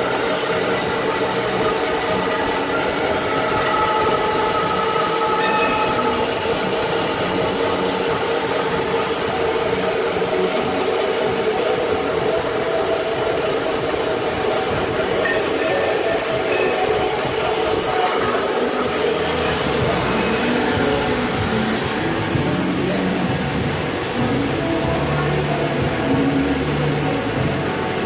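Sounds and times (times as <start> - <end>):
band saw machine humming: 0.0 - 28.0.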